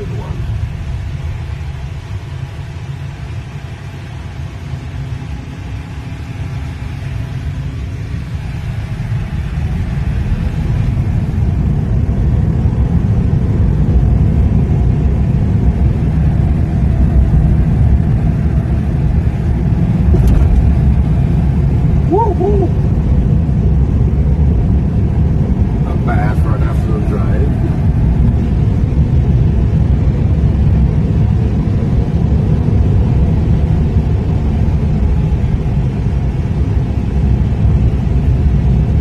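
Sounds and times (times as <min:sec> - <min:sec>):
road and tyre rumble: 0:00.0 - 0:39.0.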